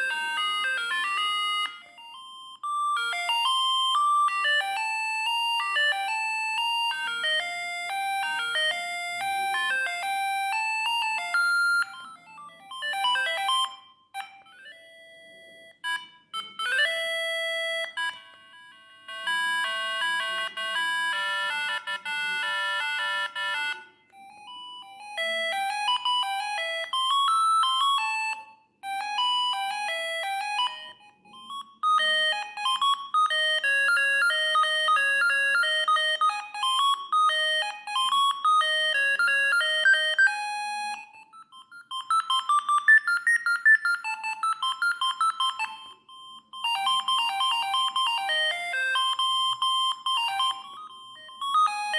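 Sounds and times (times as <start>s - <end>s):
mobile phone ringtone melodies: 0.0s - 51.9s.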